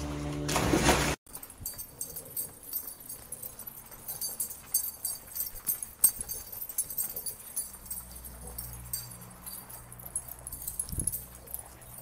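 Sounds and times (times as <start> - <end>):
light metallic jingling: 1.3 - 12.0.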